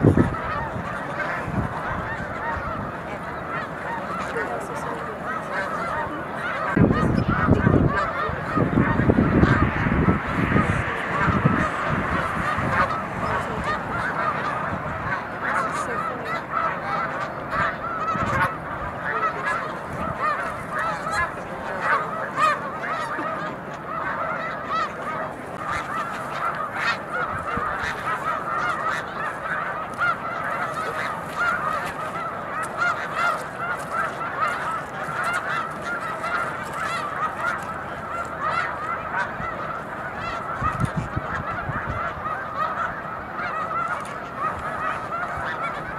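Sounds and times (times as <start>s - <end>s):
geese honking: 0.0s - 45.9s.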